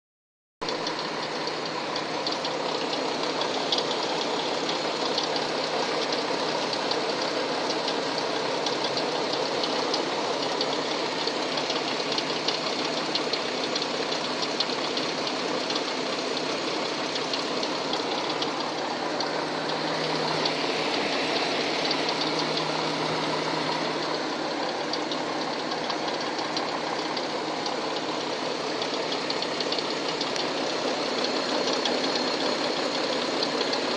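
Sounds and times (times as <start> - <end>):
car engine knocking: 0.6 - 33.9.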